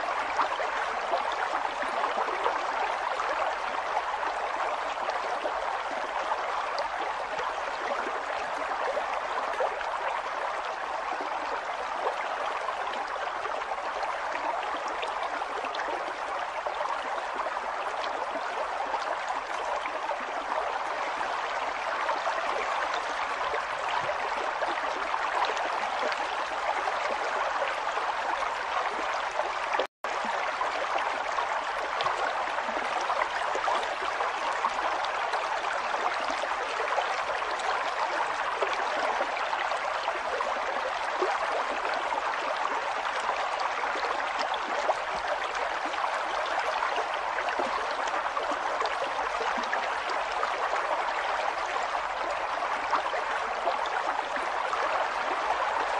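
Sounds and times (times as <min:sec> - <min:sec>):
river water rushing and babbling: 0:00.0 - 0:55.9.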